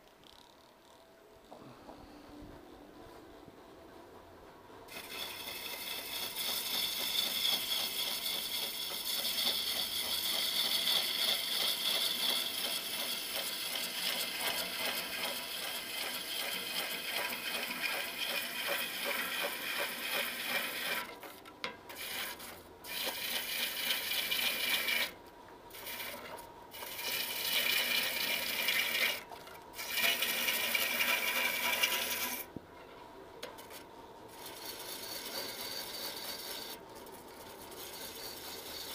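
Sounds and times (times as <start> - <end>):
lathe tool scraping wood: 4.9 - 32.5, 33.6 - 38.9.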